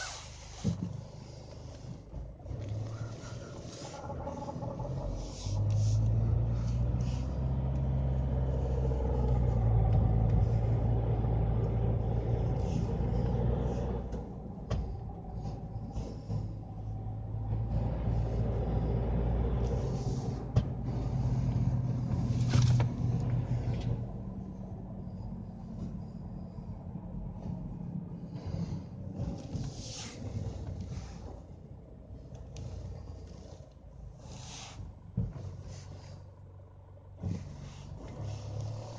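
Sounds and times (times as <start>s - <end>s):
car grinding rumble: 0.0s - 38.9s.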